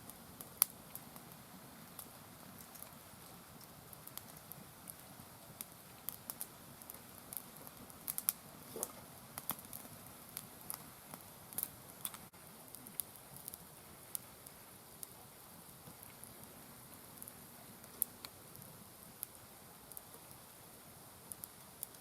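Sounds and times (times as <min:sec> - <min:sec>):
low fire hiss: 0:00.0 - 0:22.0
wood fire crackling and popping: 0:00.0 - 0:22.0.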